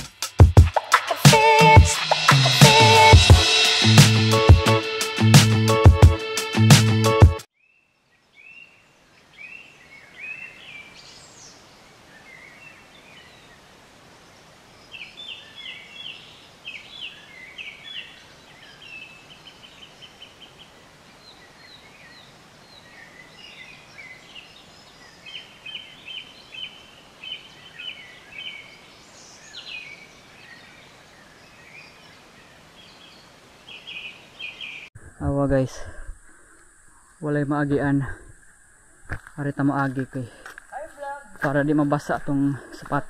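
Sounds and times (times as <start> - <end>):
faint steady hiss: 8.0 - 43.0.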